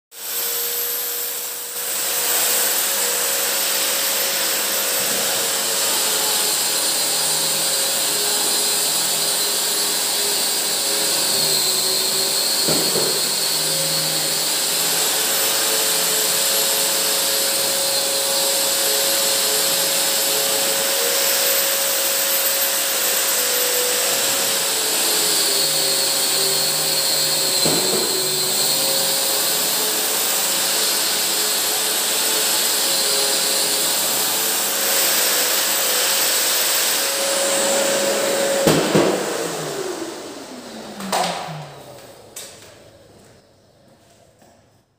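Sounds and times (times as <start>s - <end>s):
dust extraction vacuum: 0.1s - 43.7s
drywall sander whining: 0.1s - 44.5s.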